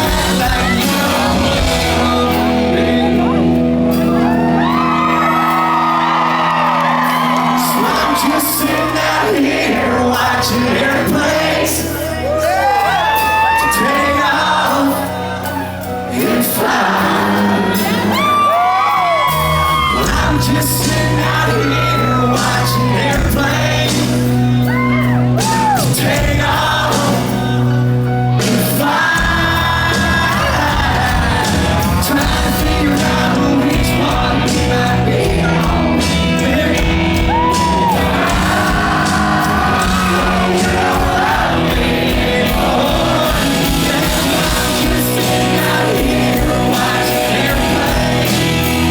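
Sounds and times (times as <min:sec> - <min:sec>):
man singing: 0:00.0 - 0:06.6, 0:07.4 - 0:48.9
live country band: 0:00.0 - 0:48.9.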